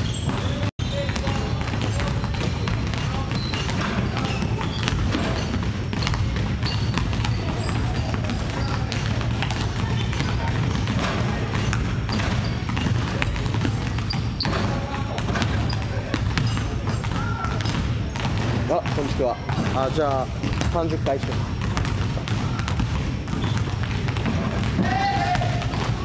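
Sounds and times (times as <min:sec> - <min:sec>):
basketballs bouncing on wooden floor: 0:00.0 - 0:26.0.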